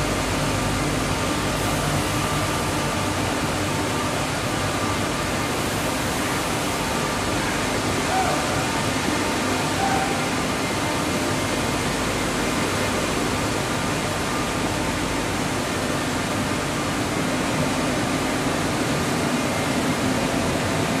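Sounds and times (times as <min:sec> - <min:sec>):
spinning mill machinery running: 0:00.0 - 0:21.0.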